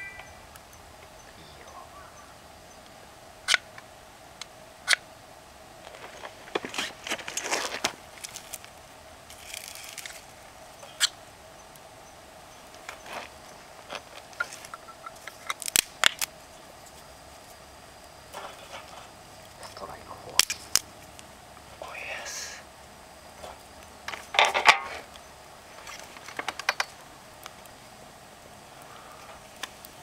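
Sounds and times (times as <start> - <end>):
wood fire crackling and popping: 0.0 - 1.4, 2.3 - 30.0.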